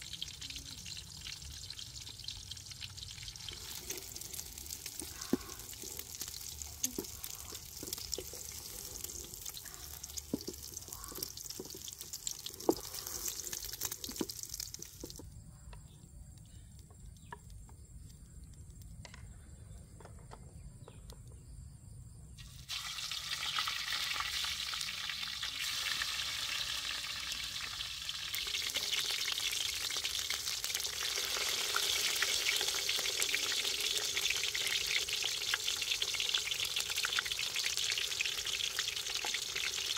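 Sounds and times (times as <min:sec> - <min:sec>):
eggs sizzling in hot oil: 0:00.0 - 0:15.2, 0:22.4 - 0:39.9.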